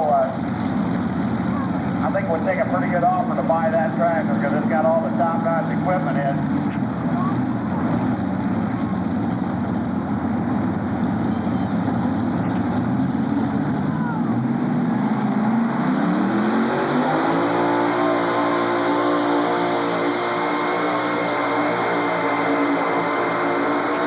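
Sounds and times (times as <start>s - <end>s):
tractor engine revving: 0.0s - 24.0s.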